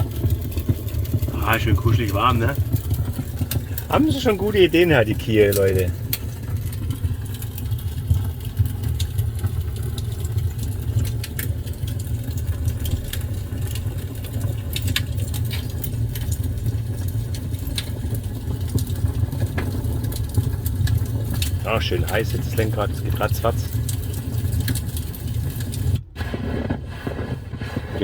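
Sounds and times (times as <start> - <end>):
fire crackles and pops: 0.0 - 28.0
fire rumble: 0.0 - 28.0.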